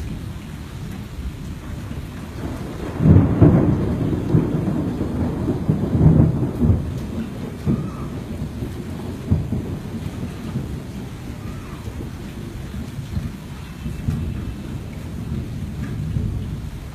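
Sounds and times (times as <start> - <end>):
rain hissing: 0.0 - 16.9
thunder rumbling: 0.0 - 16.9.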